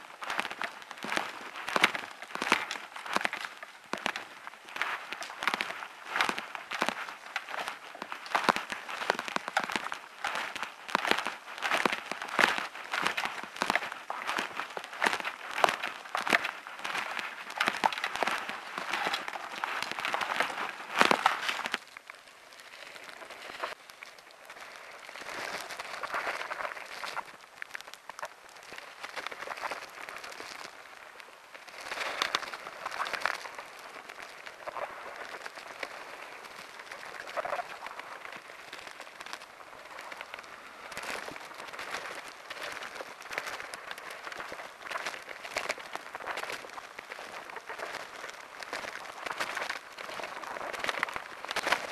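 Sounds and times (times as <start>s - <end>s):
crackling and rustling: 0.0s - 51.9s
footsteps crunching on gravel: 0.0s - 51.9s.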